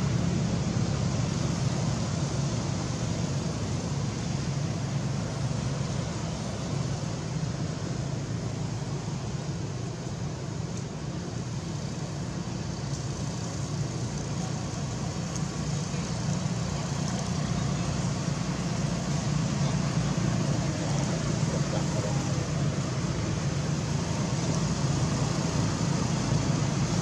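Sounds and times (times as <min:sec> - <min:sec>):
faint hiss: 0:00.0 - 0:27.0
low outdoor rumble: 0:00.0 - 0:27.0.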